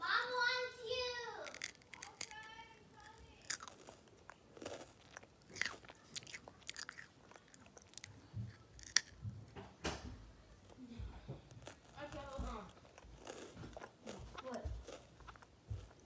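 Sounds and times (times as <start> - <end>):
crunching and chewing cheese curls: 0.2 - 9.6, 10.7 - 16.0.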